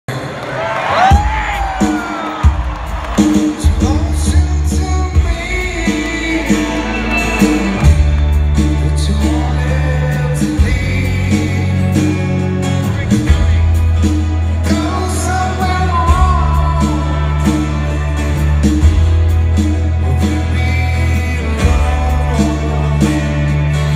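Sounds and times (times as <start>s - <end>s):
live rock band playing: 0.9s - 23.9s
man singing: 3.4s - 18.6s, 19.9s - 23.9s
deep bass chords: 3.7s - 23.9s.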